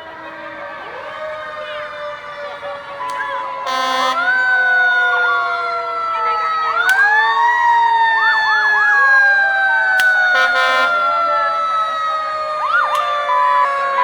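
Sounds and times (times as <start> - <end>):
short siren blast: 0.0 - 14.0
wailing siren: 0.0 - 14.0
whooping siren: 0.0 - 14.0.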